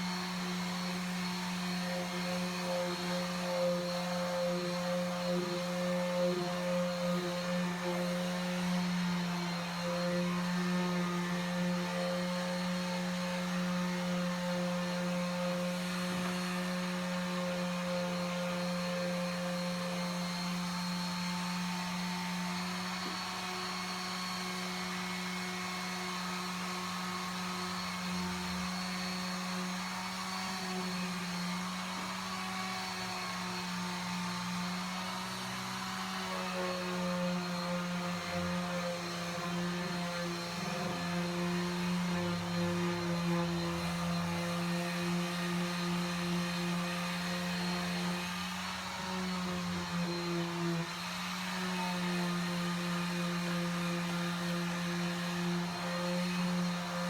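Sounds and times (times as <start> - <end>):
electric sander on paint: 0.0 - 57.0.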